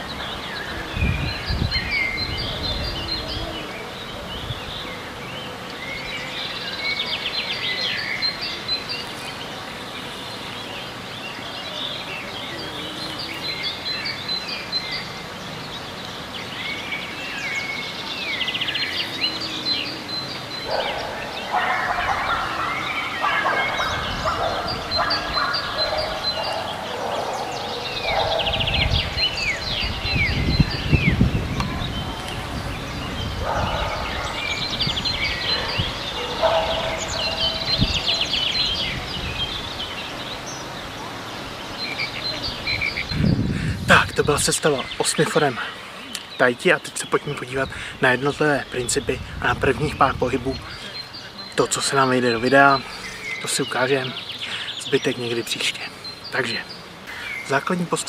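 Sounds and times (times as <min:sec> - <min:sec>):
lower rough bird calls: 0:00.0 - 0:58.0
songbirds chirping and trilling: 0:00.0 - 0:58.0.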